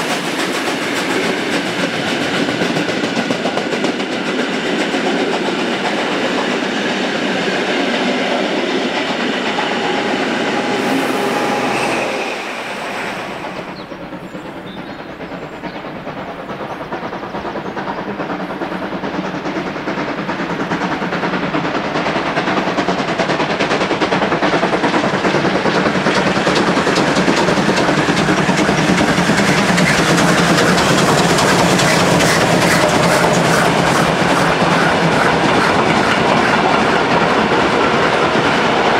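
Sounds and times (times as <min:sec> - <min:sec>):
train wheels clattering over rail joints: 0:00.0 - 0:08.1, 0:12.4 - 0:38.9.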